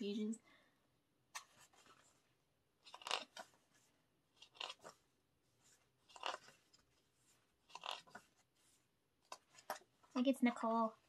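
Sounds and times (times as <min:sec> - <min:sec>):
pages turning: 0:01.3 - 0:10.2.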